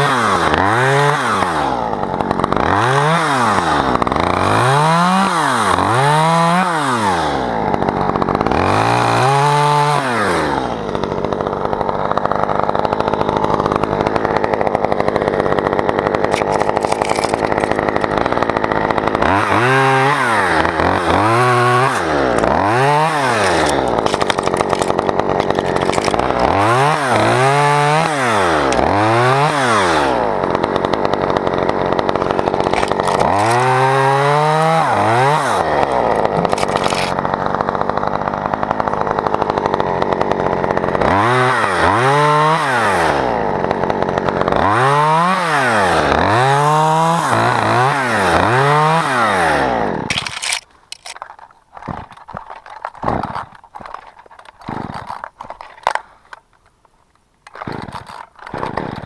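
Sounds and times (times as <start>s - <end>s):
chainsaw revving: 0.0s - 56.7s, 57.4s - 59.0s.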